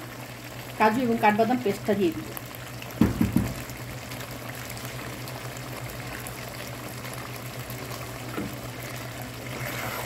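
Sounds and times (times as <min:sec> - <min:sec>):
sauce bubbling in a wok: 0:00.0 - 0:10.0.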